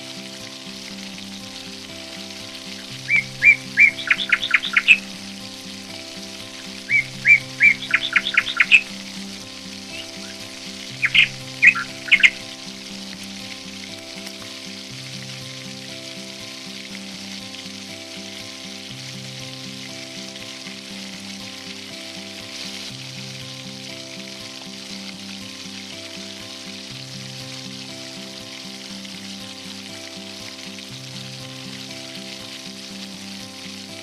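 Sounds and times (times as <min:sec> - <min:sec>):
chicken sizzling: 0:00.0 - 0:34.0
soft background music: 0:00.0 - 0:34.0.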